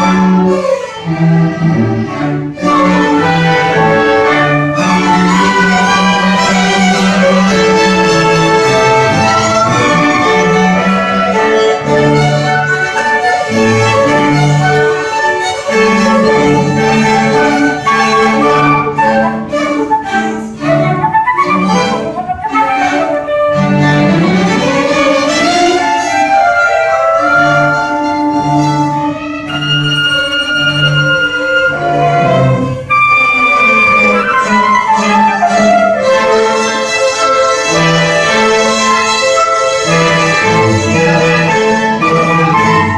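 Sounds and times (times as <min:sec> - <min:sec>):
low cello notes: 0:00.0 - 0:42.9
violins playing melody: 0:00.0 - 0:42.9.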